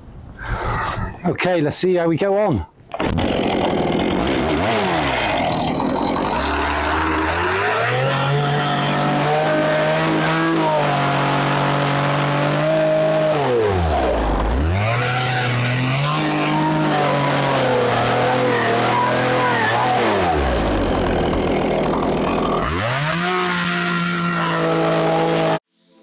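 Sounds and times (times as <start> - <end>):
chainsaw engine revving: 2.9 - 25.6.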